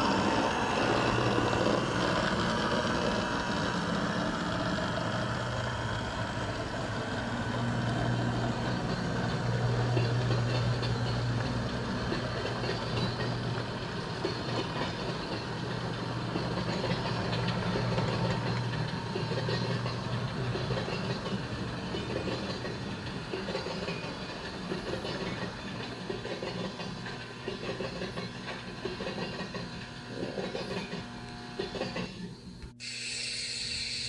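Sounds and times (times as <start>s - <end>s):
model train wheels clattering: 0.0s - 32.4s.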